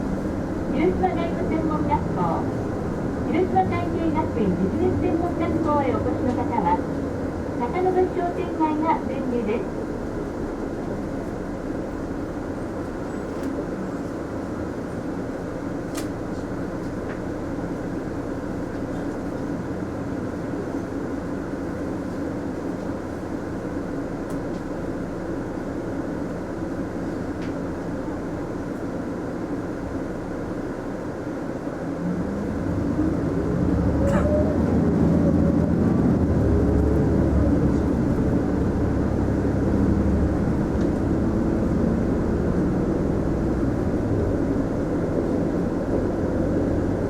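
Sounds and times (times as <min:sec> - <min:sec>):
bus engine and road noise: 0:00.0 - 0:47.0.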